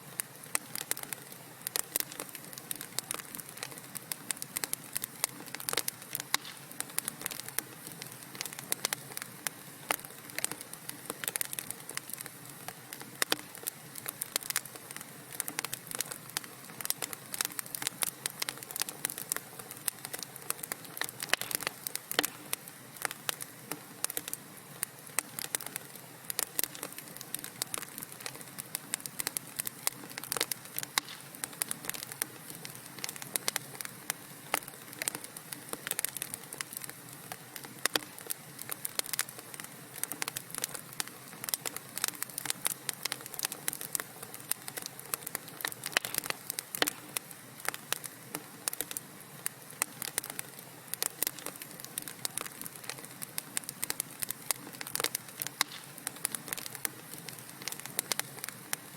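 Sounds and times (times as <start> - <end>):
hiss of burning logs: 0.0 - 58.9
wood fire crackling and popping: 0.0 - 58.9.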